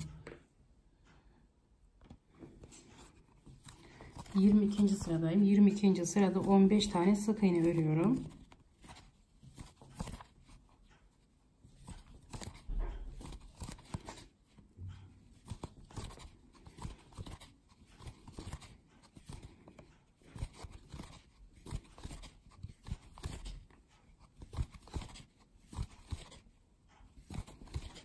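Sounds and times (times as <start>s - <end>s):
crochet hook clicking through yarn: 3.0s - 28.0s.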